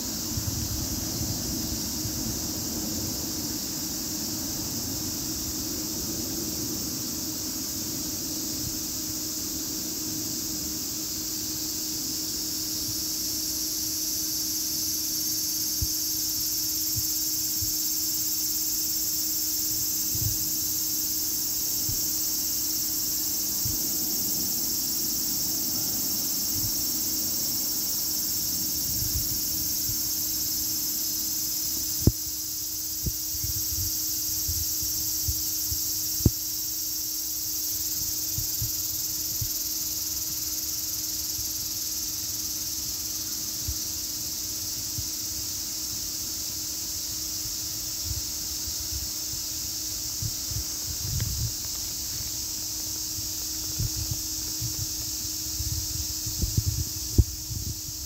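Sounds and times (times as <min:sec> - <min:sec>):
cicadas singing: 0:00.0 - 0:58.0.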